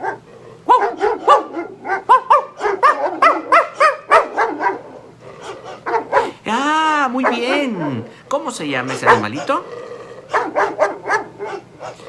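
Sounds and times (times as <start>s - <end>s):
dog barking high: 0.0s - 8.1s, 8.8s - 9.6s, 10.2s - 12.0s.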